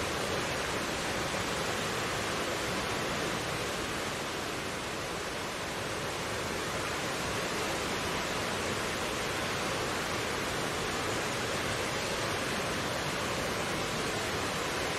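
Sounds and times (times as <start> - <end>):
stream rushing over rocks: 0.0 - 14.9.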